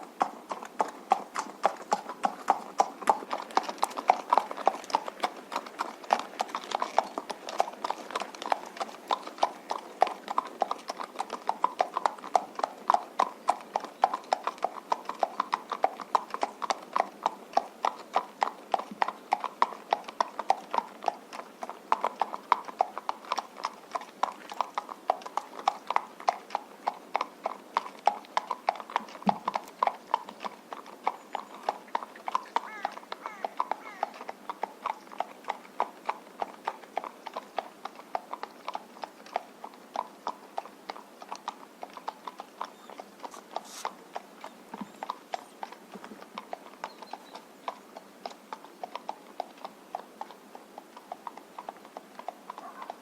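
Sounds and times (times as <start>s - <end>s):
horse hooves on road: 0.0s - 53.0s.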